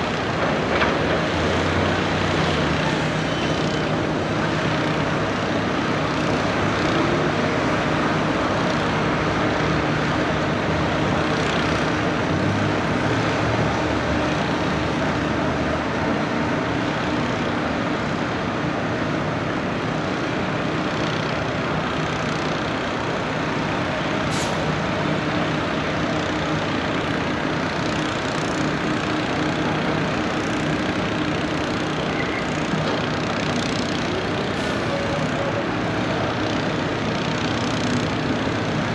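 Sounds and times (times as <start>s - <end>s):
diesel drill engine under load: 0.0s - 38.9s.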